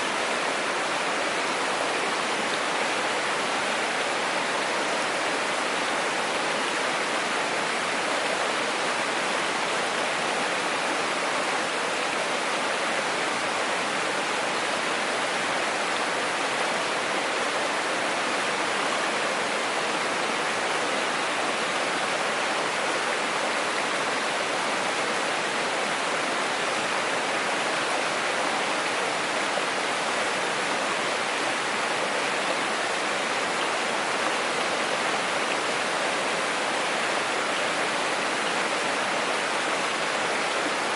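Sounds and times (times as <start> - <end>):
stream rushing water: 0.0 - 40.9.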